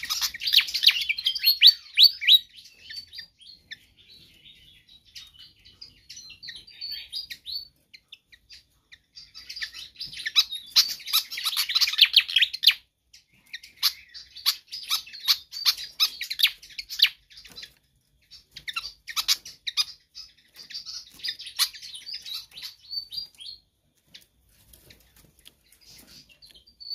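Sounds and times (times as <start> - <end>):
bird chirping and twittering: 0.0 - 26.9.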